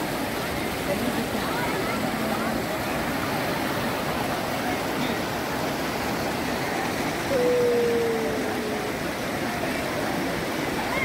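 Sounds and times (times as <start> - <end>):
rushing water of rapids: 0.0 - 11.0
crowd voices: 0.8 - 11.0.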